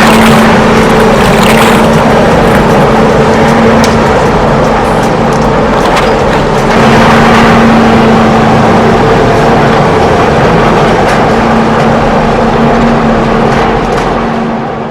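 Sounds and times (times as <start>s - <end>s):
engine-like running noise: 0.0s - 14.9s.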